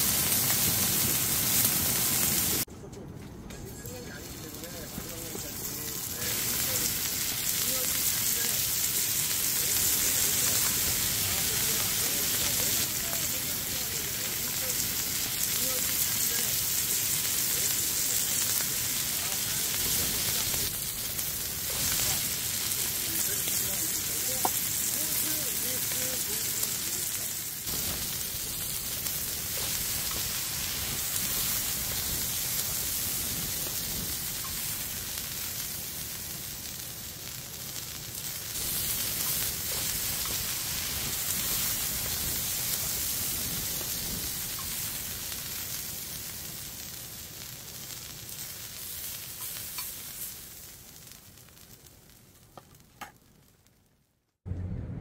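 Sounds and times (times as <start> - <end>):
steak sizzling on a griddle: 0.0 - 2.7, 4.5 - 52.8.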